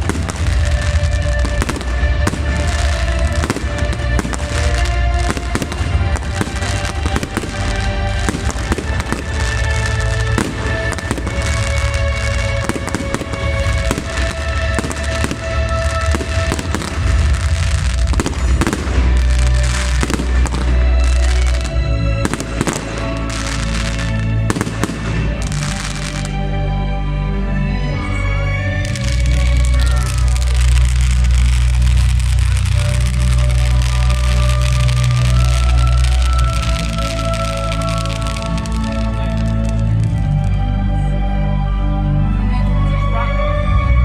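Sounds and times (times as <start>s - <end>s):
fireworks bangs and crackling: 0.0s - 26.6s, 28.1s - 40.7s
music playing: 0.0s - 44.0s.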